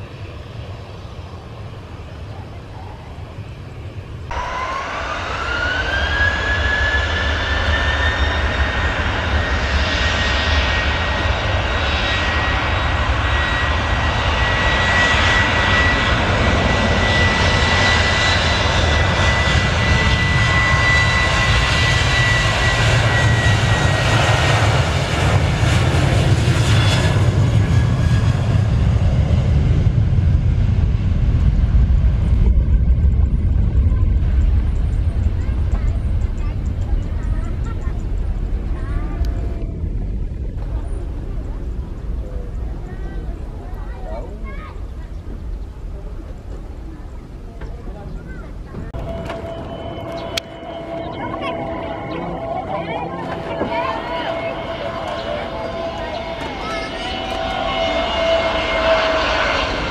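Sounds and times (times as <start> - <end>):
jet engines spooling up: 0.0 - 44.1, 48.5 - 59.9
jet roar: 0.0 - 59.9
low rumble: 2.8 - 59.9.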